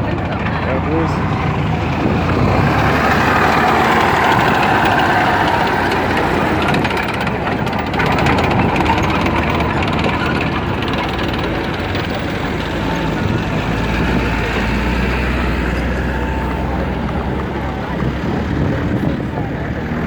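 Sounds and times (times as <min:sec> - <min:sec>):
vehicle engine driving past: 0:00.0 - 0:20.0.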